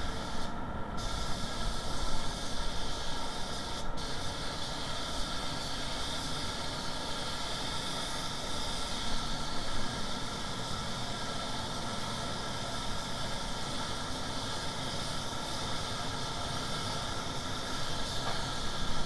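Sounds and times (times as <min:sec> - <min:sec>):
paint spray gun hissing: 0:00.0 - 0:19.0.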